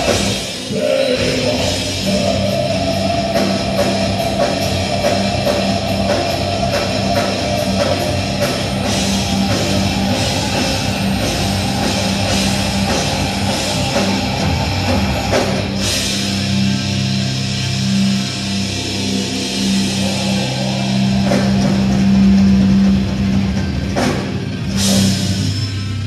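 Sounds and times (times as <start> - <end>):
drum kit: 0.0 - 26.0
electric guitars: 0.0 - 26.0
live rock band playing: 0.0 - 26.0.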